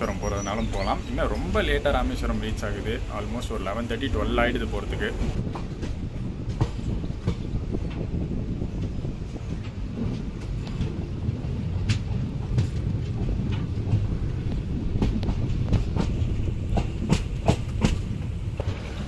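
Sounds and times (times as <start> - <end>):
train rumbling: 0.0 - 19.0
wheels clicking over rail joints: 0.0 - 19.0.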